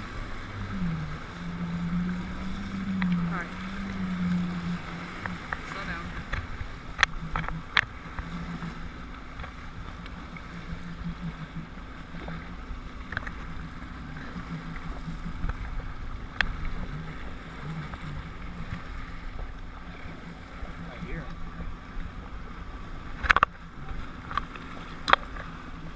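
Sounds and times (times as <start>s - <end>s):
jet ski engine running: 0.0s - 25.9s
water noise: 0.0s - 25.9s
wind: 0.0s - 25.9s.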